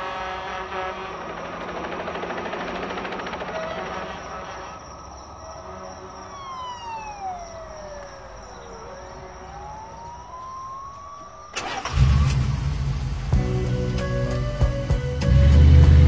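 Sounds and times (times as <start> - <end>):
siren wail: 0.0 - 13.0.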